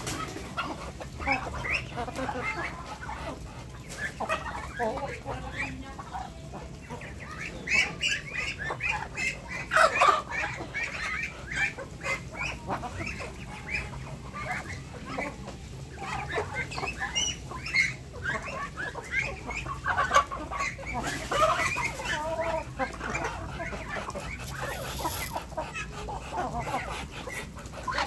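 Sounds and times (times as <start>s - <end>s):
poultry clucking and calling: 0.0s - 28.0s.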